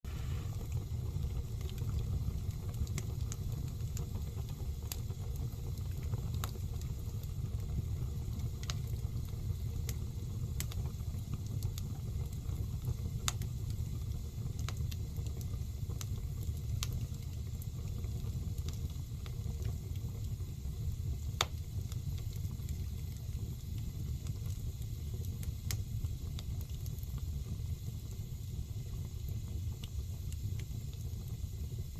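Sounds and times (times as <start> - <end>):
wood fire crackling: 0.1 - 31.9.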